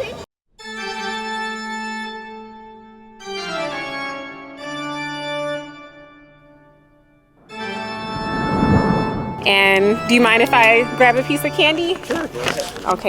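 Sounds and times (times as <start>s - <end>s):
organ chords: 0.6s - 12.9s.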